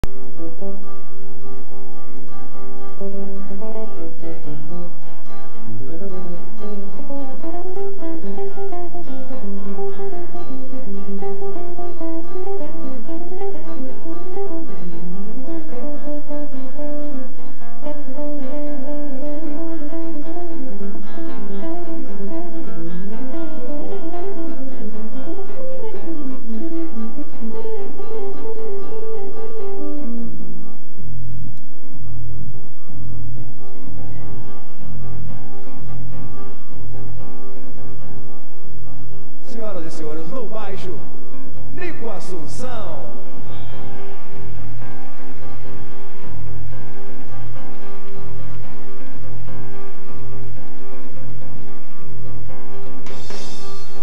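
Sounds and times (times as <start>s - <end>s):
acoustic guitar: 0.0s - 54.0s
electric bass: 0.0s - 54.0s.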